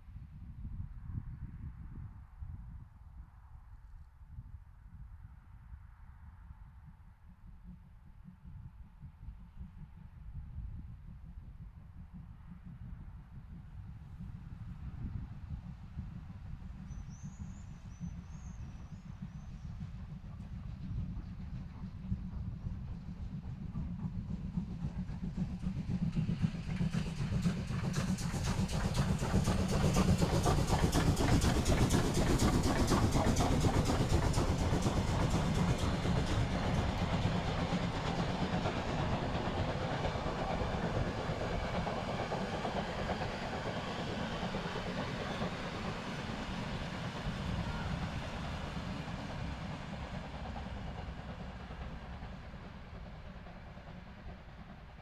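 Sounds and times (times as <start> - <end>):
train passing with clickety-clack: 6.1 - 55.0.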